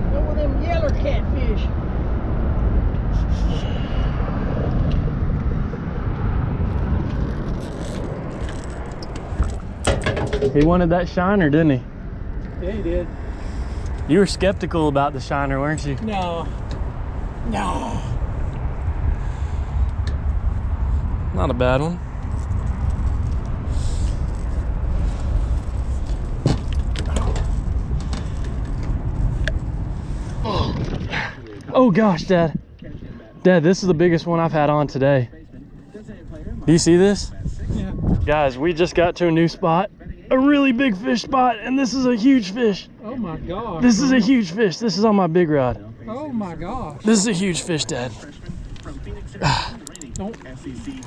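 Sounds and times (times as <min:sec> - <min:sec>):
wind buffeting microphone: 0:00.0 - 0:34.6, 0:35.3 - 0:41.7
steady low rumble: 0:00.0 - 0:51.0.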